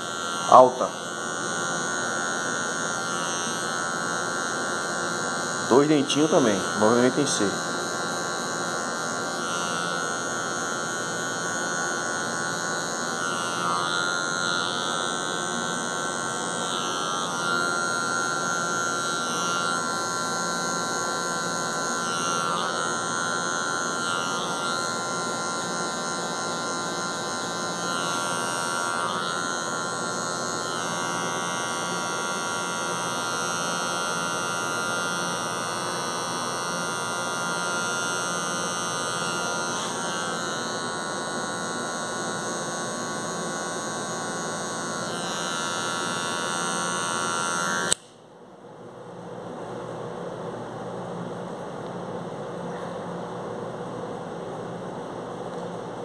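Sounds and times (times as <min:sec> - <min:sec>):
electric hair clippers running: 0:00.0 - 0:48.2.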